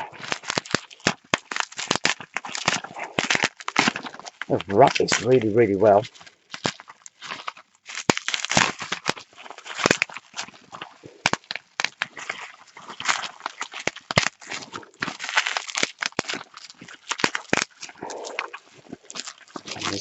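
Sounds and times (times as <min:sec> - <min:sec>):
packaging crinkling and tearing: 0:00.0 - 0:20.0.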